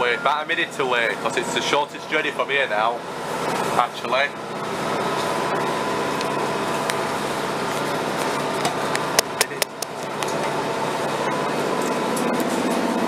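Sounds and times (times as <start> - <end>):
train diesel engine hum: 0.0 - 13.0.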